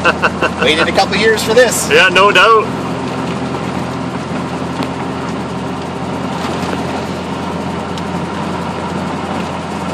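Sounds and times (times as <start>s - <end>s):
car engine running: 0.0s - 9.9s.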